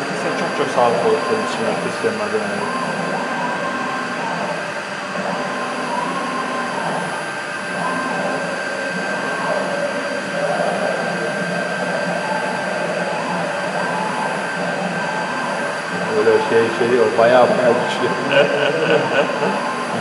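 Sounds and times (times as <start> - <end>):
router motor whine: 0.0 - 20.0.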